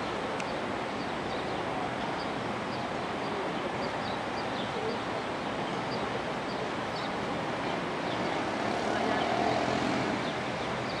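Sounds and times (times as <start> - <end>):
distant city traffic: 0.0 - 11.0
small birds chirping: 0.0 - 11.0.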